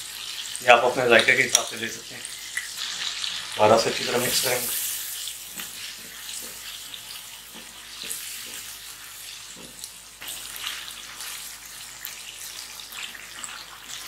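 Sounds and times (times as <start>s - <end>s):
gravy sizzling and bubbling: 0.0s - 14.0s.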